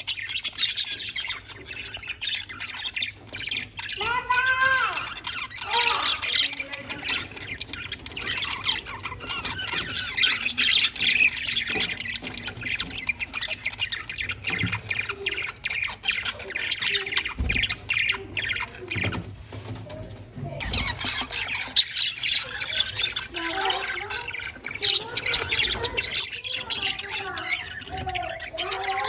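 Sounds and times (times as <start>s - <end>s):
budgerigars chirping and squawking: 0.0s - 29.0s.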